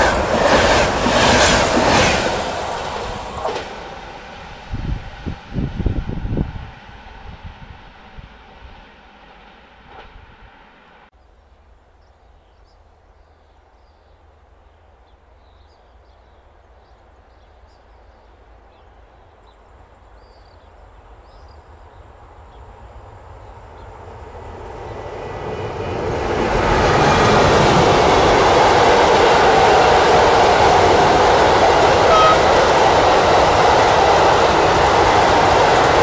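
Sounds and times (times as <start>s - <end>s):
train rumbling past: 0.0s - 11.5s, 14.2s - 36.0s.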